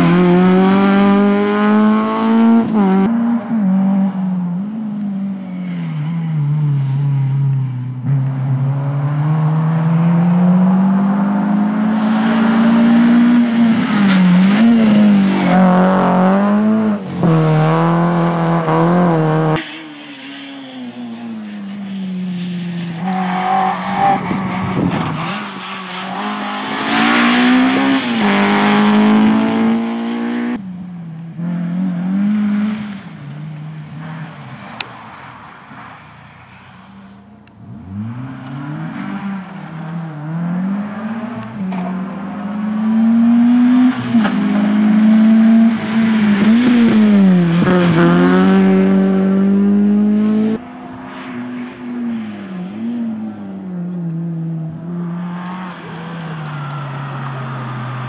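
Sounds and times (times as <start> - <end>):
rally car engines revving: 0.0 - 58.0
tyre noise on road: 0.0 - 58.0.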